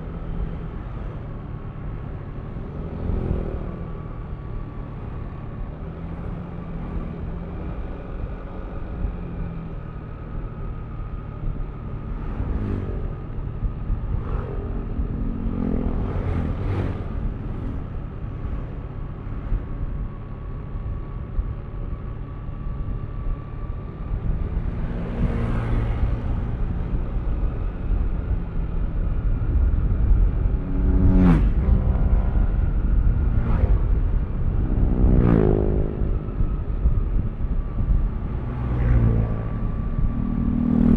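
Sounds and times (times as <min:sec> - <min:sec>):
scooter engine and road rumble: 0:00.0 - 0:40.9.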